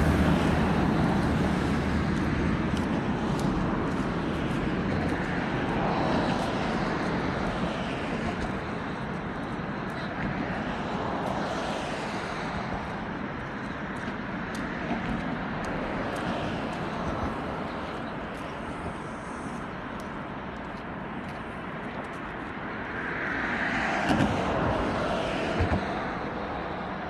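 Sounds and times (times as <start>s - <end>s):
road traffic rumble: 0.0s - 27.0s
vehicles passing: 0.0s - 27.0s.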